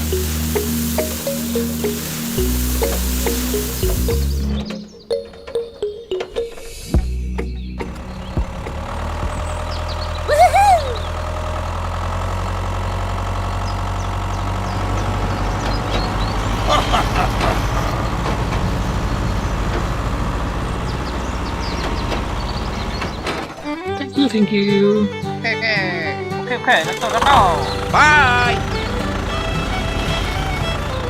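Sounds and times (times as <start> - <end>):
truck engine running: 0.0 - 25.3, 26.1 - 31.0.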